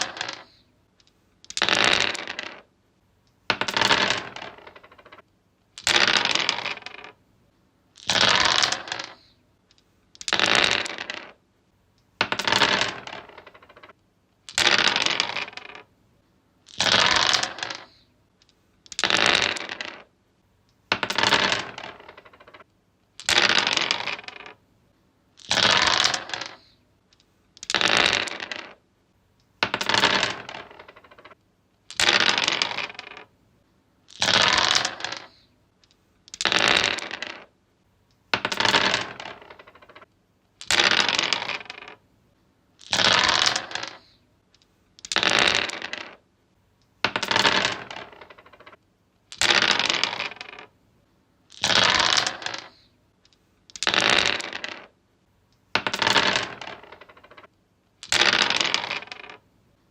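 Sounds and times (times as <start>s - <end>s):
dice rolling on wood: 0.0s - 7.2s, 7.9s - 11.4s, 12.0s - 15.9s, 16.6s - 24.6s, 25.4s - 28.8s, 29.4s - 33.4s, 34.1s - 42.0s, 42.8s - 46.3s, 46.9s - 50.8s, 51.5s - 55.0s, 55.6s - 59.5s.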